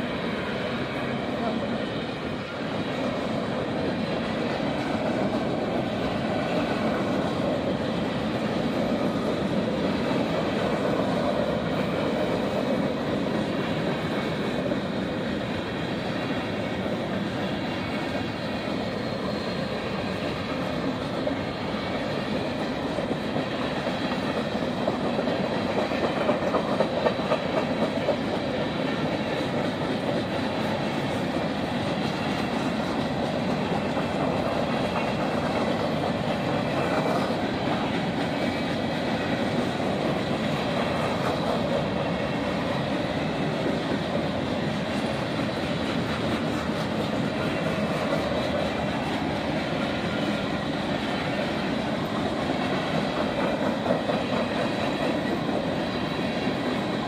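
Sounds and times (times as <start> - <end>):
freight train rumbling past: 0.0 - 57.0
wheels clacking over rail joints: 0.0 - 57.0.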